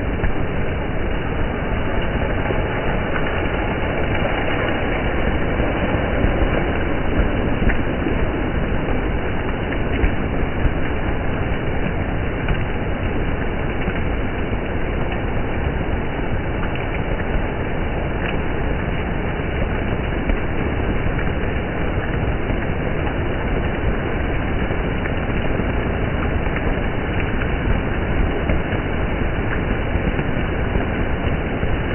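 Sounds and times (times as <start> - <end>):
water rushing and splashing: 0.0 - 31.9.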